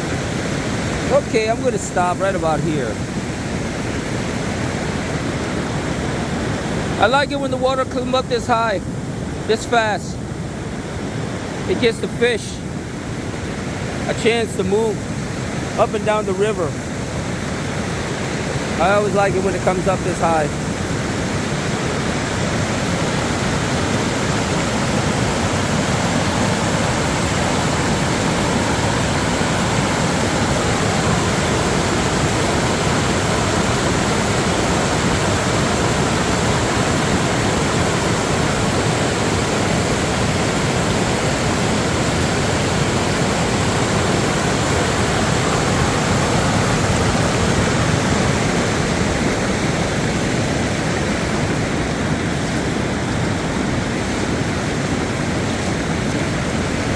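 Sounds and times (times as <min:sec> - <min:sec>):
creek rushing: 0:00.0 - 0:56.9.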